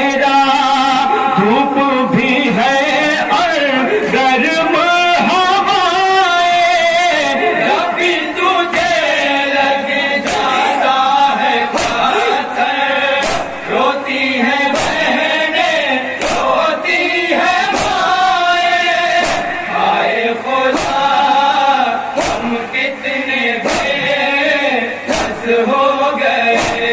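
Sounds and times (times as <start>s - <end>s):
men chanting in unison: 0.0s - 26.9s.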